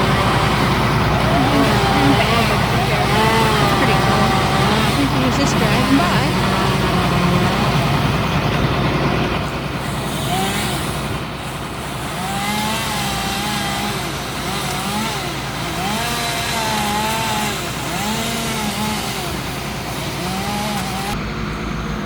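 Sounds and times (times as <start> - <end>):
chainsaw revving: 0.0 - 21.6
rumble of traffic: 0.0 - 22.0.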